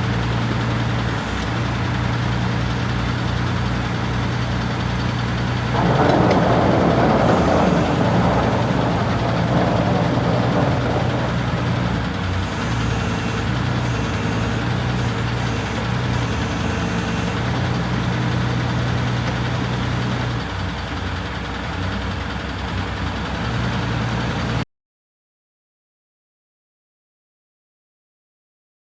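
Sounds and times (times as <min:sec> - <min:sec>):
forklift engine running: 0:00.0 - 0:24.6.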